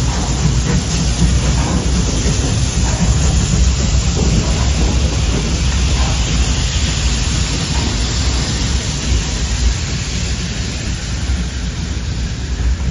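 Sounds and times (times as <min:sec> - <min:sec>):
steam train rolling past: 0:00.0 - 0:12.9.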